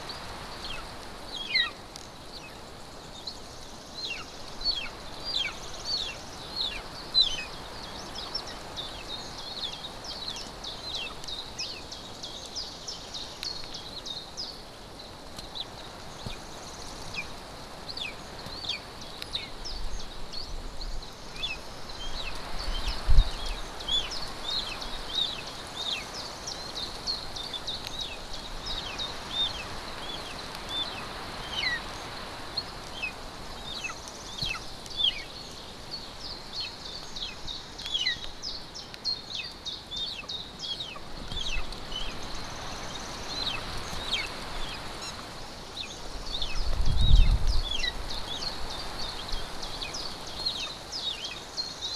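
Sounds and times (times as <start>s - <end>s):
small birds chirping and singing: 0.0s - 51.9s.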